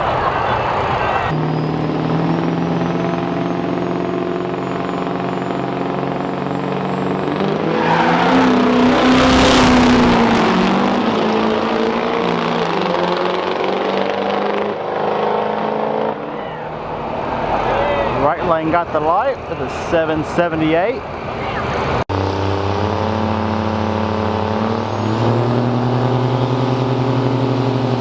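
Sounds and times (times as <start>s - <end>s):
diesel truck engines running hard: 0.0s - 28.0s.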